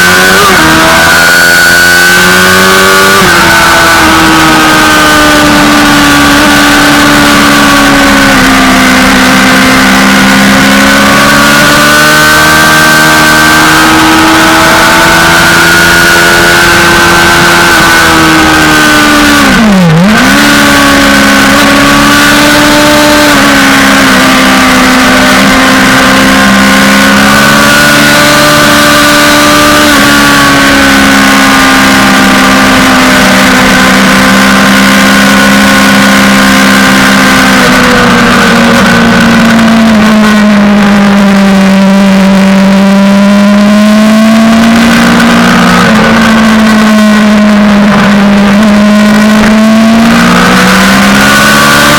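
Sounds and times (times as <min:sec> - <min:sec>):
motorcycle engine revving high: 0:00.0 - 0:51.9.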